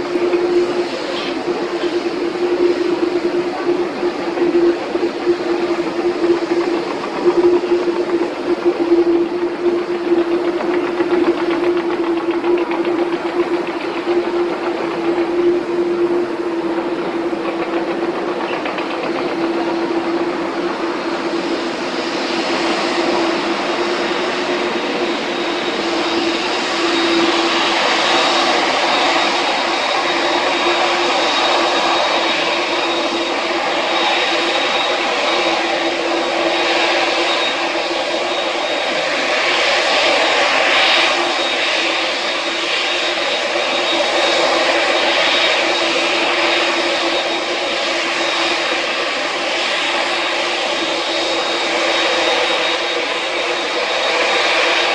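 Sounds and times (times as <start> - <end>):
jet engines roaring: 0.0 - 54.9.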